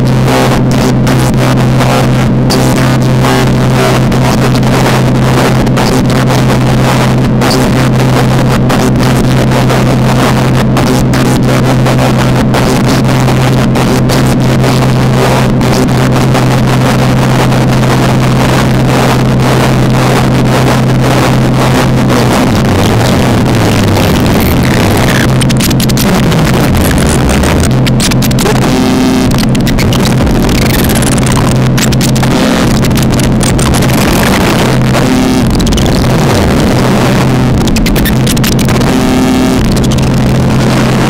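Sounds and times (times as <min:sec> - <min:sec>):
amplified noise drone: 0:00.0 - 0:41.0.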